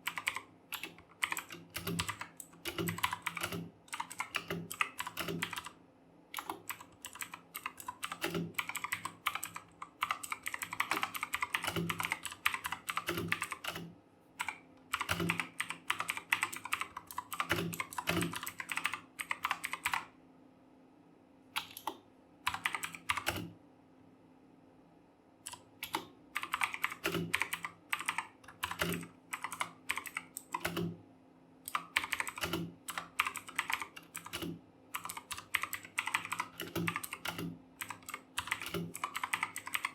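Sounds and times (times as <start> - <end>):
typing on mechanical keyboard: 0.0 - 5.8, 6.4 - 20.1, 21.6 - 23.5, 25.4 - 31.0, 31.7 - 39.9.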